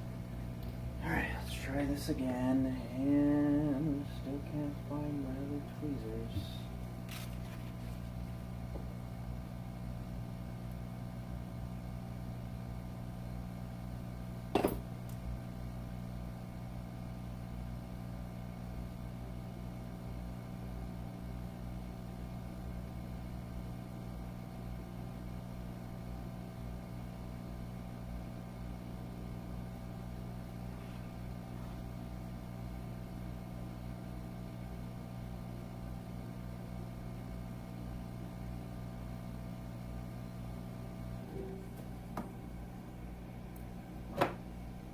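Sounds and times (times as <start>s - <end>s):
equipment humming: 0.0s - 17.4s, 18.2s - 44.9s.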